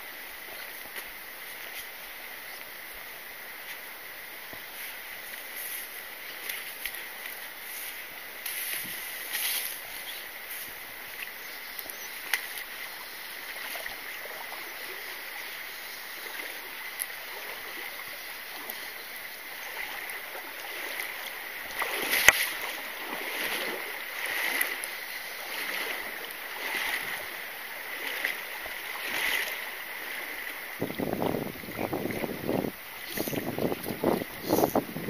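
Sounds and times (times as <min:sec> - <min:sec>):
running stream water: 0:00.0 - 0:35.0.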